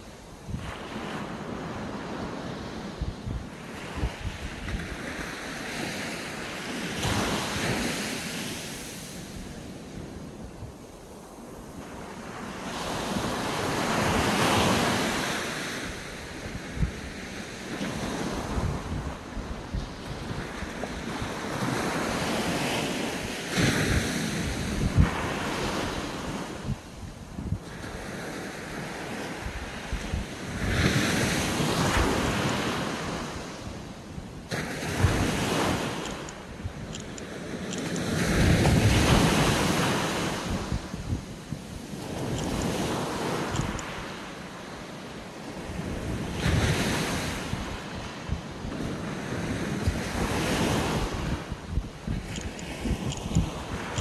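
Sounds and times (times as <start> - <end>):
sea waves breaking on beach: 0.0 - 54.0
wind buffeting microphone: 0.0 - 54.0.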